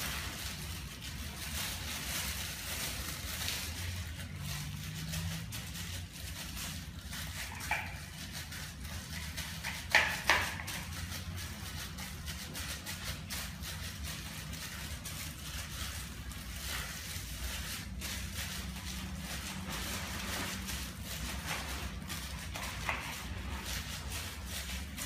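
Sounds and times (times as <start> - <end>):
hands squishing minced meat: 0.0 - 25.0.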